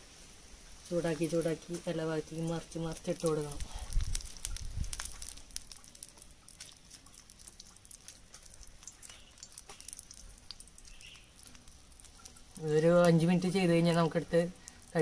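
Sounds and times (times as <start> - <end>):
oil frying in a pan: 0.0 - 15.0
wood fire crackling: 0.0 - 15.0.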